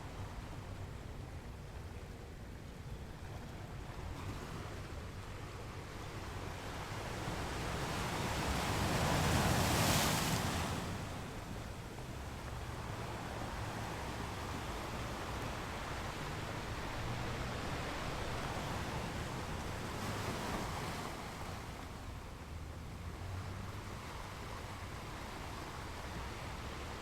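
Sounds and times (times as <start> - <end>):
ocean waves washing onto shore: 2.9 - 27.0.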